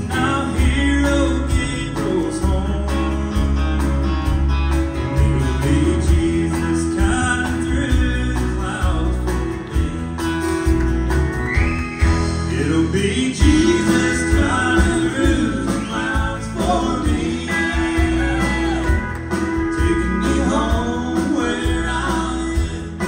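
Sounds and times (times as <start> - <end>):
man singing: 0.0 - 3.9, 4.9 - 10.6, 12.2 - 23.0
live country band playing: 0.0 - 23.0.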